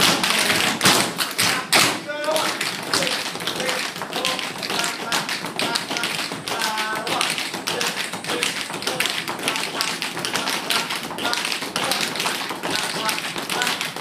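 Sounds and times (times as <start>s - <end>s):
tap shoes striking floor: 0.0s - 14.0s.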